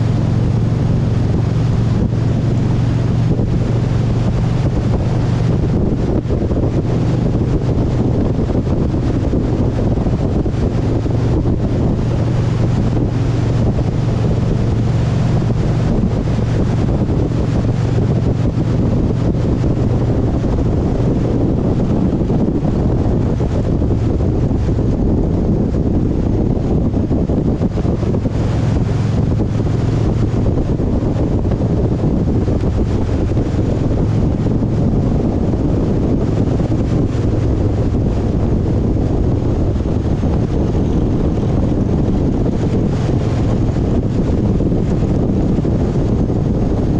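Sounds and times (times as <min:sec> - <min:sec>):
vehicle engine running: 0:00.0 - 0:46.9
wind buffeting microphone: 0:00.0 - 0:46.9.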